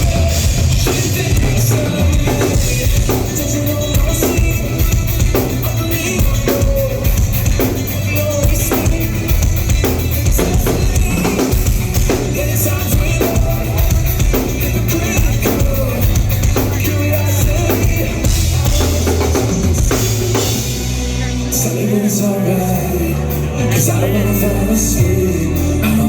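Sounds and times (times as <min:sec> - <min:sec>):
drum kit beat: 0:00.0 - 0:23.3
heavy bass: 0:00.0 - 0:26.0
rock band playing: 0:00.0 - 0:26.0.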